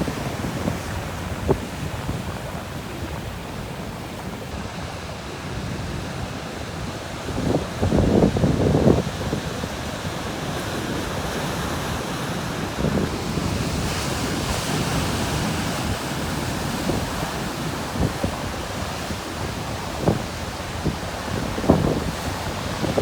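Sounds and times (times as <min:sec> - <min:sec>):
ocean waves breaking on rocks: 0:00.0 - 0:23.0
wind rumbling on microphone: 0:00.0 - 0:23.0.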